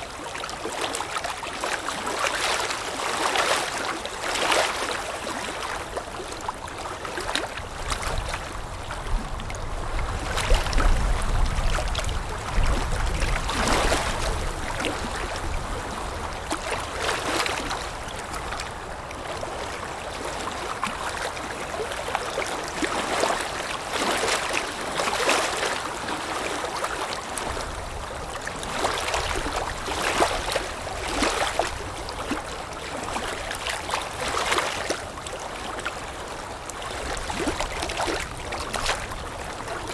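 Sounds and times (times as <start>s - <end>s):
water lapping splashes: 0.0s - 39.9s.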